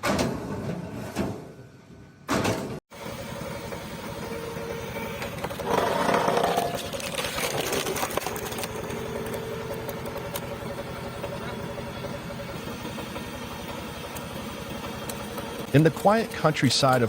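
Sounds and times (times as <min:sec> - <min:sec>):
log splitter engine running: 0:03.0 - 0:17.0.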